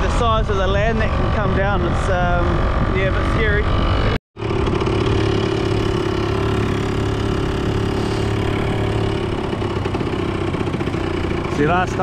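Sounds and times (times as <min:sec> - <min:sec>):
motorbike engine running: 0:00.7 - 0:12.0.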